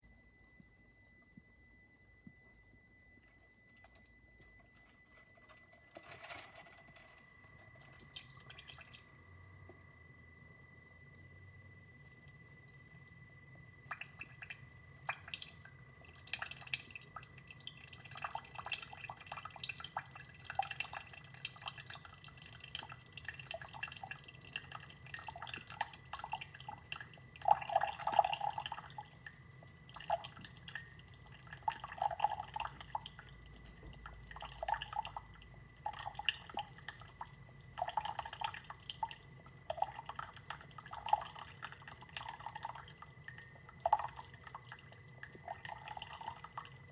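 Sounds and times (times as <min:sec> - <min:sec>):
faint high whine: 0:00.0 - 0:46.9
coffee dripping and sputtering: 0:02.2 - 0:46.9.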